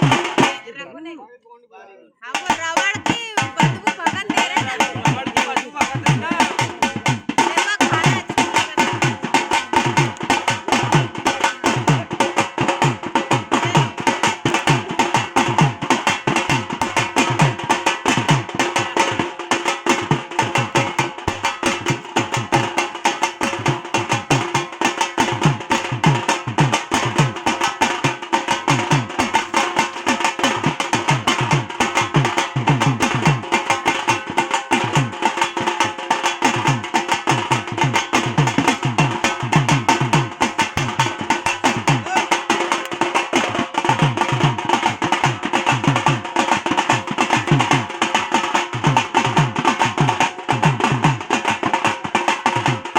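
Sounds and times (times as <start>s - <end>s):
fast drumming: 0.0s - 0.7s, 2.2s - 52.9s.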